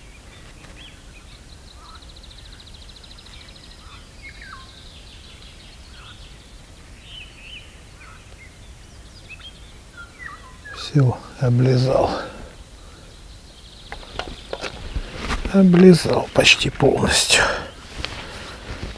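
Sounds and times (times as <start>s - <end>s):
small birds singing: 0.0s - 18.9s
steady low outdoor background: 0.0s - 18.9s.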